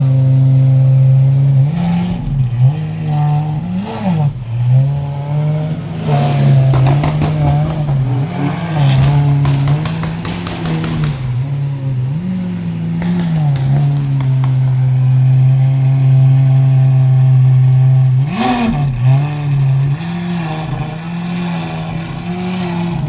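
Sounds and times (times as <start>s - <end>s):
exhaust crackles: 0.0s - 23.0s
sports car engine revving: 0.0s - 23.0s.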